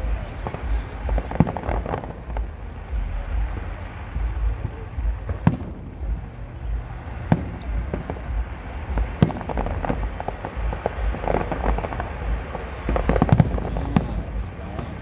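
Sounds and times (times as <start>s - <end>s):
firework bangs: 0.0s - 15.0s
fireworks crackling: 0.0s - 15.0s.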